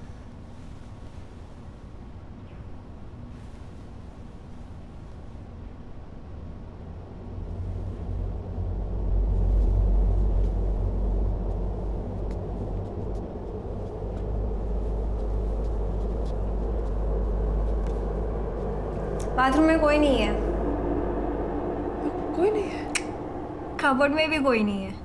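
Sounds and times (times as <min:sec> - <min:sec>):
low rumbling suspense drone: 0:00.0 - 0:25.0.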